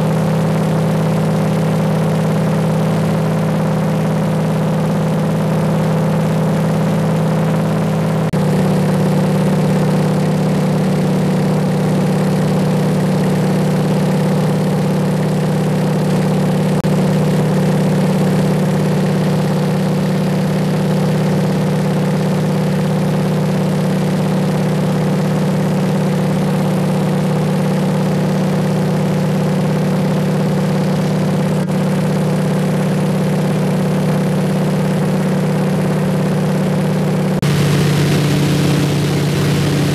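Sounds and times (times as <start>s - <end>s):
floatplane engine and propeller drone: 0.0s - 39.9s.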